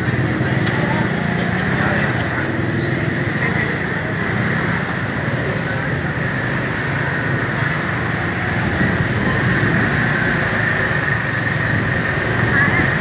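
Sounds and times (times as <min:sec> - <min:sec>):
market background hum and hiss: 0:00.0 - 0:13.0.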